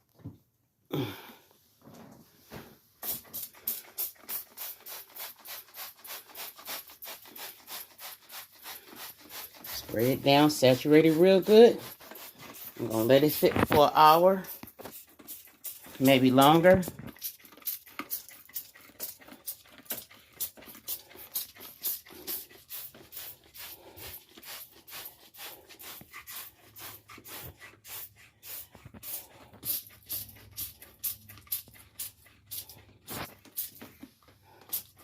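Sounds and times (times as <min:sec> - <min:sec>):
spray bottle squirts: 0:03.0 - 0:34.0.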